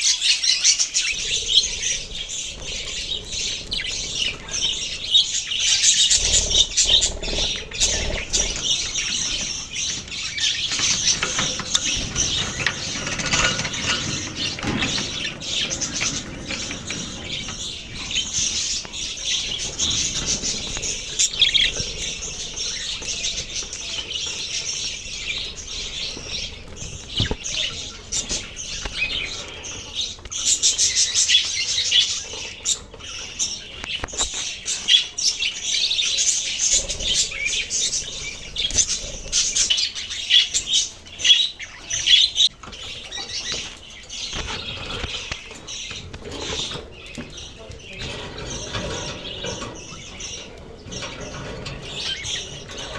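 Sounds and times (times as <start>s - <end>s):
budgerigars chirping: 0.0s - 52.9s.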